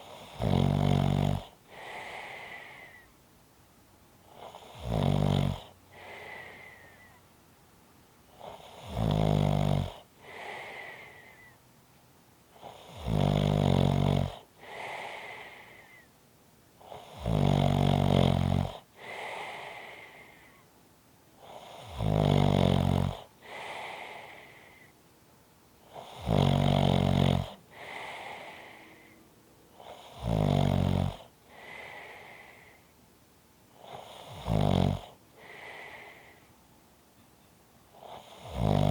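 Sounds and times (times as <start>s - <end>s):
low snoring: 0.0s - 3.1s, 4.2s - 7.2s, 8.3s - 11.6s, 12.5s - 16.1s, 16.8s - 20.6s, 21.4s - 25.0s, 25.8s - 32.9s, 33.7s - 36.5s, 37.9s - 38.9s.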